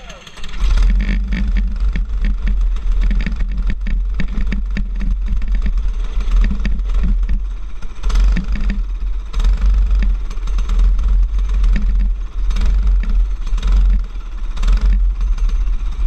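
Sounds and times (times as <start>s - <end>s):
clatter: 0.0s - 16.0s
racing kart engine: 0.0s - 16.0s.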